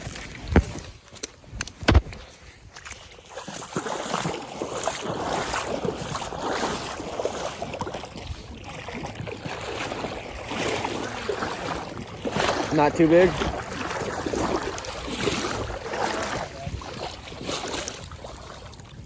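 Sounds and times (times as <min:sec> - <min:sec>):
river water splashing: 0:00.0 - 0:19.0.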